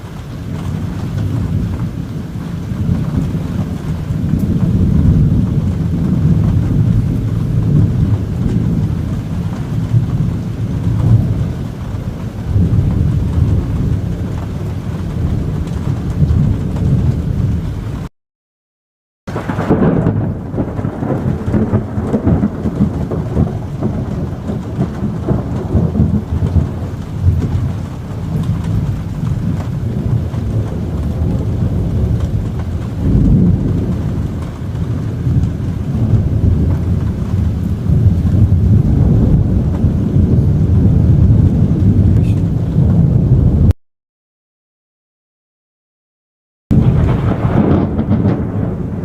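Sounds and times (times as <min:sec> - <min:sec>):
thunder rumbling: 0:00.0 - 0:18.1, 0:19.3 - 0:43.8, 0:46.7 - 0:49.0.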